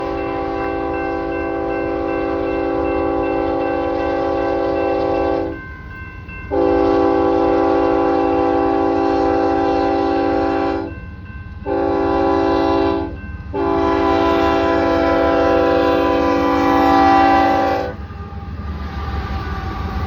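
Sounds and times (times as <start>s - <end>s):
locomotive chime air horn: 0.0s - 5.7s, 6.5s - 20.0s
moving train rumble: 0.0s - 20.0s.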